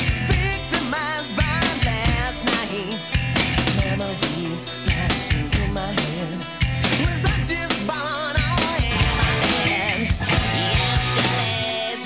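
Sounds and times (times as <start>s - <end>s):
rock music with drum beat: 0.0s - 12.0s.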